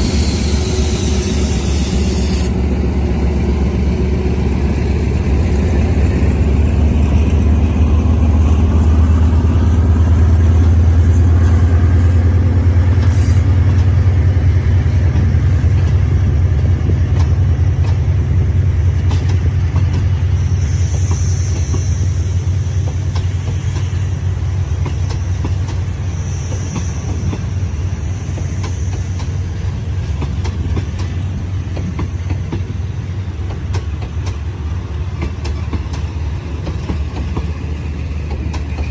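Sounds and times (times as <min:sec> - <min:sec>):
diesel train rumble: 0:00.0 - 0:38.9
wheels clacking on rails: 0:00.0 - 0:38.9.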